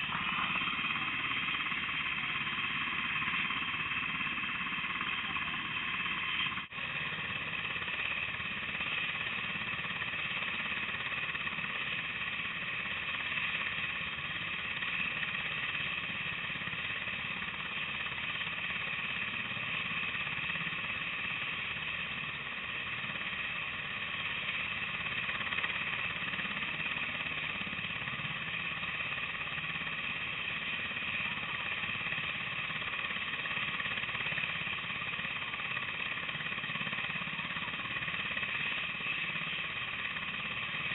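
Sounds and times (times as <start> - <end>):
helicopter rotor chopping: 0.0 - 40.9
helicopter turbine whine: 0.0 - 40.9.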